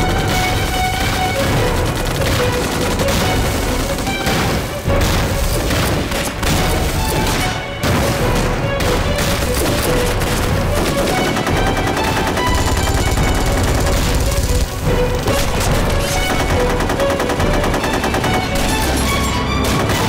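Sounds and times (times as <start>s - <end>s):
dramatic film music: 0.0s - 20.0s
rifle and machine-gun fire: 0.0s - 20.0s
shell explosions: 0.0s - 20.0s.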